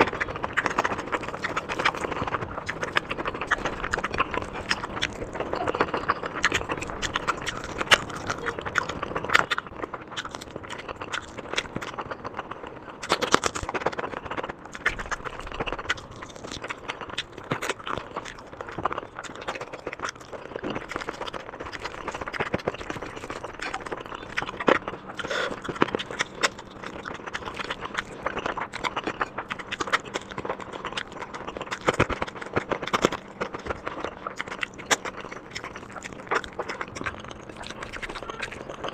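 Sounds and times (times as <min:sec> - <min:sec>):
wet chewing and mouth smacking: 0:00.0 - 0:38.9.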